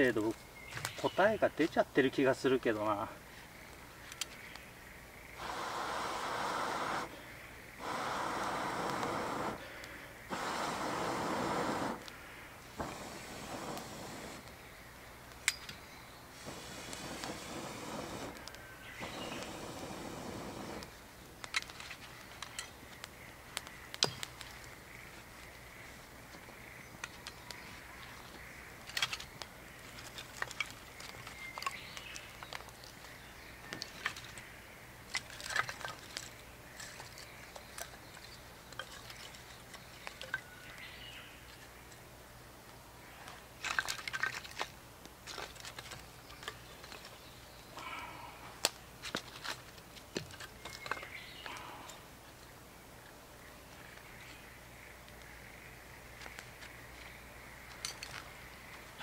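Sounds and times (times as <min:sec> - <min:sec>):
campfire crackling and popping: 0:03.2 - 0:47.7, 0:48.5 - 0:59.0.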